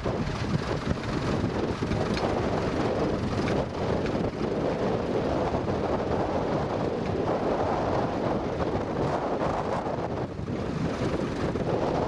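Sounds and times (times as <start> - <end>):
tractor engine running: 0.0 - 12.0
wind buffeting microphone: 0.0 - 12.0.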